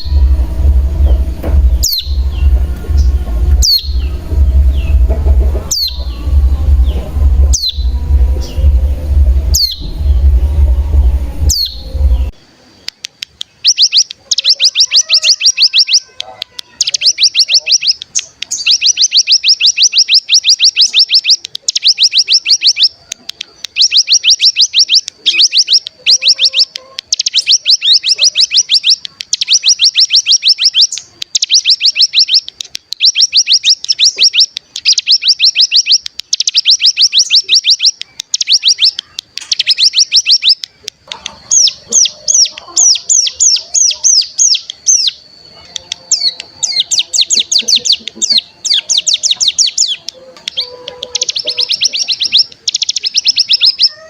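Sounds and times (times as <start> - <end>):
bird singing rattling trill: 0.0 - 12.9, 13.5 - 54.0.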